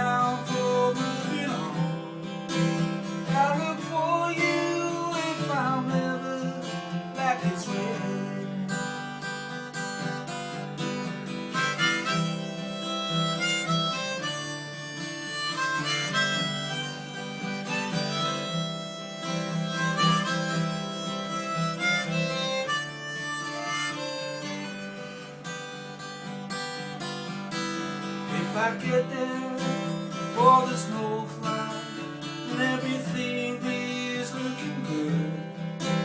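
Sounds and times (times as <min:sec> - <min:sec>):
person singing folk song: 0:00.0 - 0:24.5, 0:27.2 - 0:36.0
harmonica solo: 0:00.0 - 0:36.0
strummed acoustic guitar: 0:00.0 - 0:36.0.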